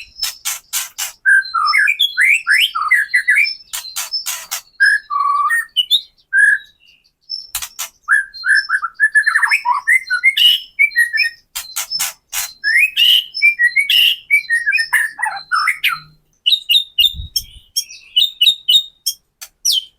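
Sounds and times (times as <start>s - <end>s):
bird singing whistled phrases: 1.2s - 19.9s.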